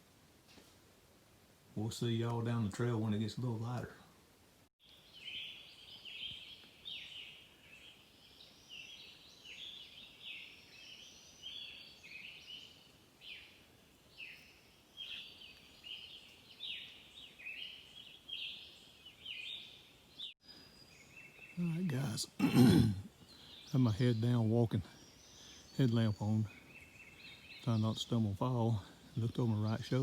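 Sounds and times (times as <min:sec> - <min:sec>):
songbirds singing: 0:04.8 - 0:30.0.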